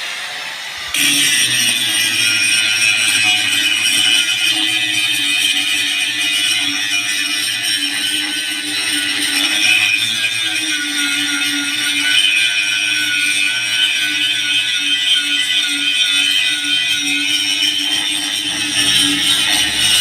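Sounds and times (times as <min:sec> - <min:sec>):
power grinder whining: 0:00.0 - 0:20.0.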